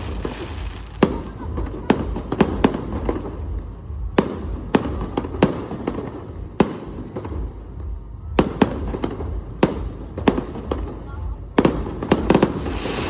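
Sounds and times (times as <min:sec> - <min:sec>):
fireworks bangs: 0:00.0 - 0:13.0
low rumble of fireworks: 0:00.0 - 0:13.0.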